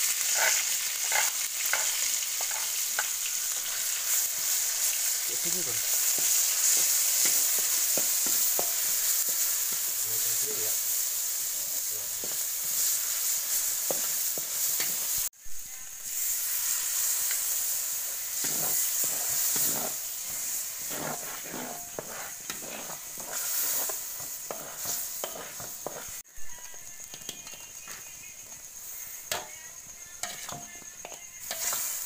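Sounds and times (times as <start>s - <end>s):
meat sizzling: 0.0s - 32.0s.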